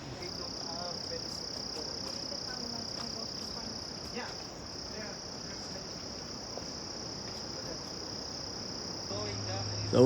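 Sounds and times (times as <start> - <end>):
shrill insect chorus: 0.0 - 10.0.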